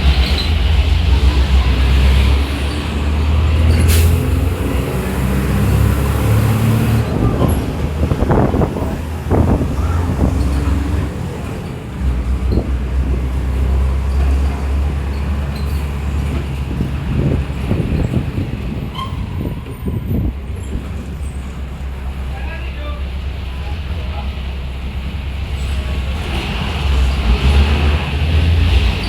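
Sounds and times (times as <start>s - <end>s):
diesel bus engine droning: 0.0s - 29.0s.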